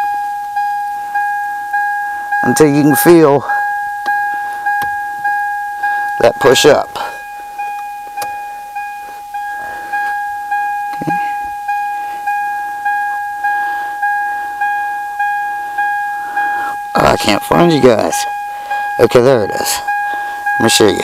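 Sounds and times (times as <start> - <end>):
car warning chime dinging: 0.0 - 21.0.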